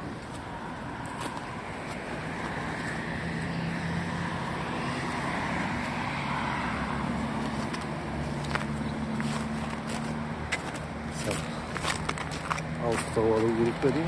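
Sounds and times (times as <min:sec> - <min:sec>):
cars driving past: 0:00.0 - 0:14.0.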